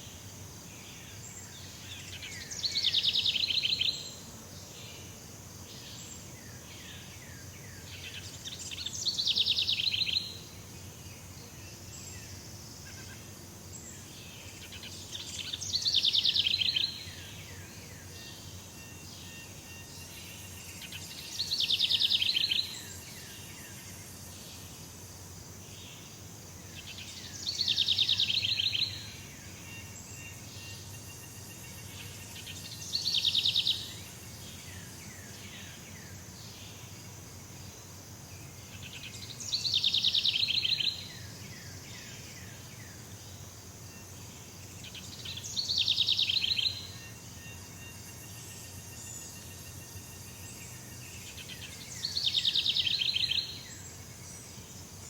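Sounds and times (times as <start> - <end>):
insects humming: 0.0 - 55.0.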